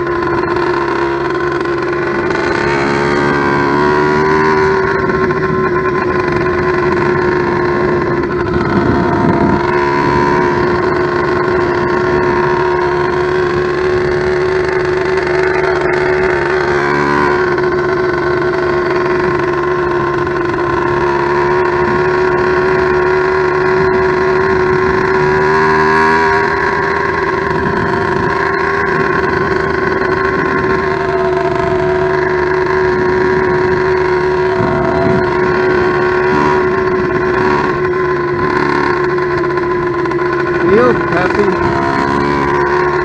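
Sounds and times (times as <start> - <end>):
two-stroke bicycle engine running: 0.0 - 43.0.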